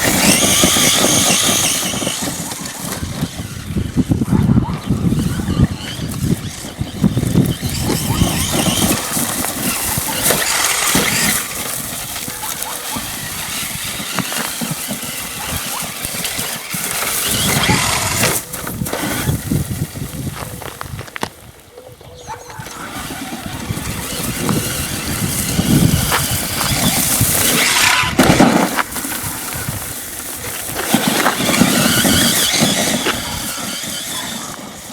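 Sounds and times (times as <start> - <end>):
electric rc truck motor: 0.0 - 34.9.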